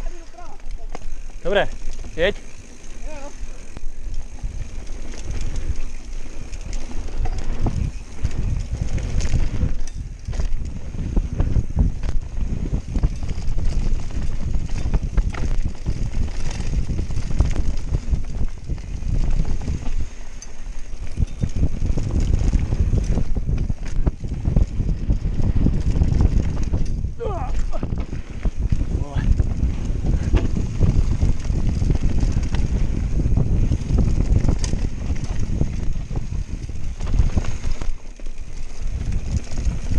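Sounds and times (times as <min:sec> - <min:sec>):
bike clattering over bumps: 0:00.0 - 0:39.9
wind buffeting microphone: 0:00.0 - 0:39.9.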